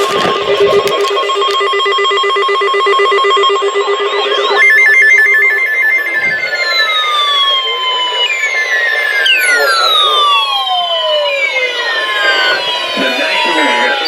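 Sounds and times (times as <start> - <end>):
pulsing electronic alarm beeps: 0.0 - 14.0
warbling chirp: 0.1 - 14.0
fast beep: 0.3 - 14.0.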